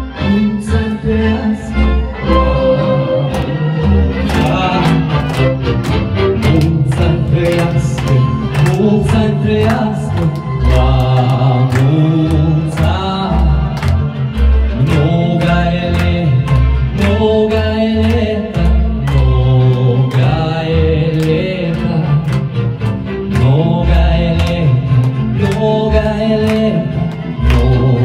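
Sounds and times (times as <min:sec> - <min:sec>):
sung melody: 0:00.0 - 0:28.0.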